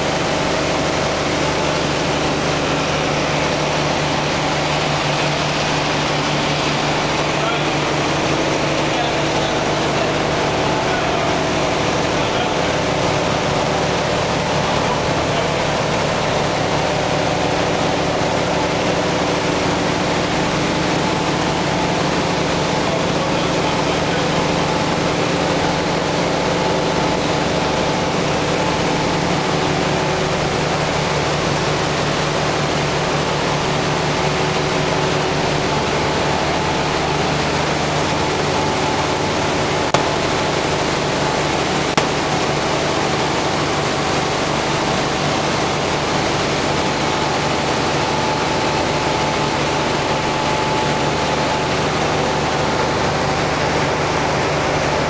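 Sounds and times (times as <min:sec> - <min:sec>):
refrigeration machinery hum: 0:00.0 - 0:55.0.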